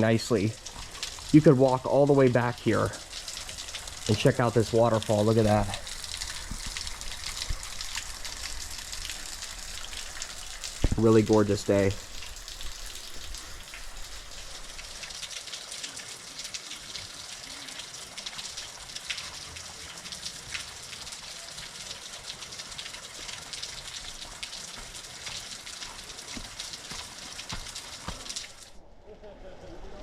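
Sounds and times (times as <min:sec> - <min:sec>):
water drips: 0:00.0 - 0:28.8
waterfall trickling onto rock: 0:00.0 - 0:28.8.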